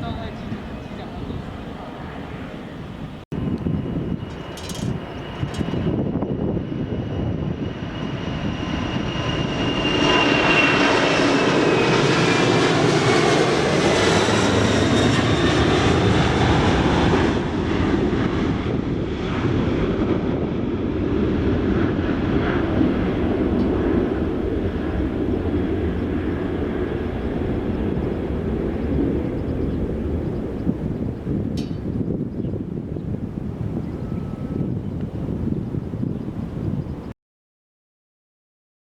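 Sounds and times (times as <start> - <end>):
airliner passing close by: 0.0 - 37.2.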